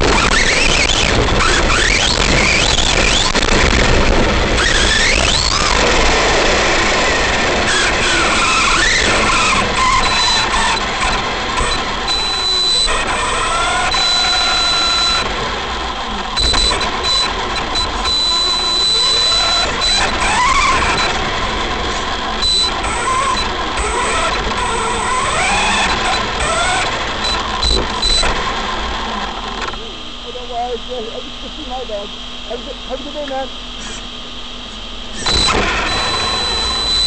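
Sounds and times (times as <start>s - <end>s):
tyre and road noise: 0.0s - 32.4s
electric motor whine: 0.0s - 37.0s.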